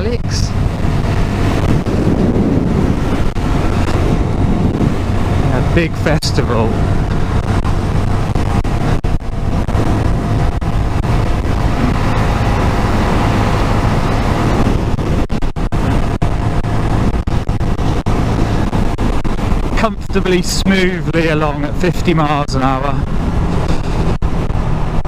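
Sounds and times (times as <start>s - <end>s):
motorcycle engine running: 0.0s - 20.9s
rushing wind: 0.0s - 25.0s.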